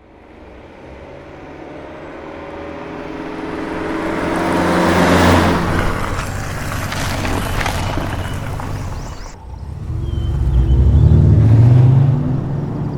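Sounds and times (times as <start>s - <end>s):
engine approaching: 0.0s - 12.9s.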